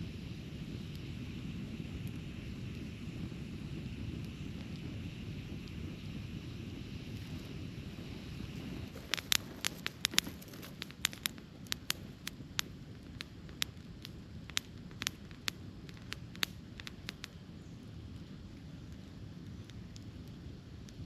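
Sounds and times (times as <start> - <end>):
campfire crackling and popping: 0.0 - 21.0
low steady rumble: 0.0 - 21.0.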